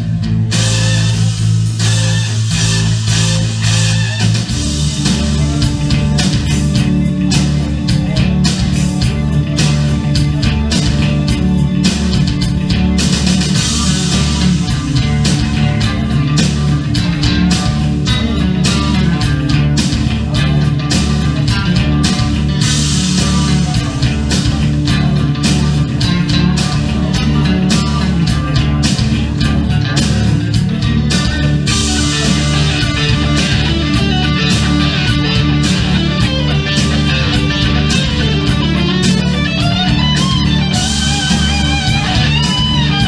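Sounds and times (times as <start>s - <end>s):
drum beat: 0.0s - 43.0s
rock guitar: 0.0s - 43.0s.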